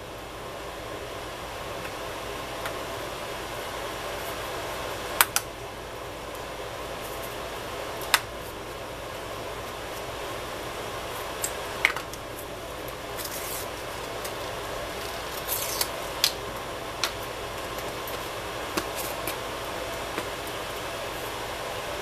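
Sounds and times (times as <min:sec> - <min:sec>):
background hum: 0:00.0 - 0:22.0.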